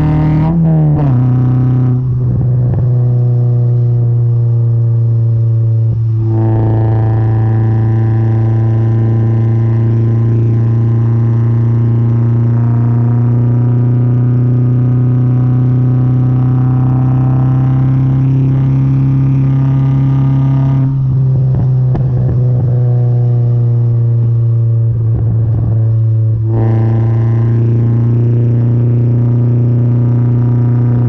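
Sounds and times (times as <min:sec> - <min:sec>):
exhaust pops and crackles: 0:00.0 - 0:04.1, 0:05.9 - 0:31.0
car exhaust drone: 0:00.0 - 0:31.0.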